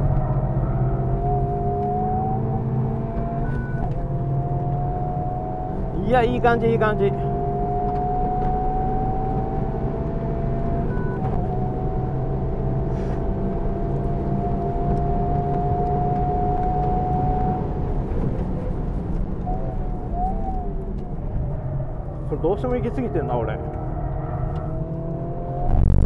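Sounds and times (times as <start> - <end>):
car engine at full throttle: 0.0 - 26.0
road noise: 0.0 - 26.0.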